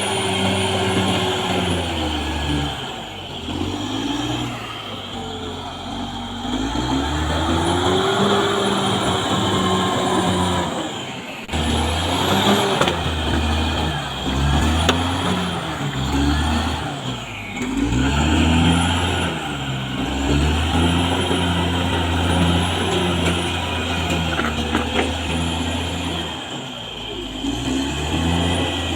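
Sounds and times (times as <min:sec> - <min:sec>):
bulldozer diesel engine working: 0:00.0 - 0:28.9.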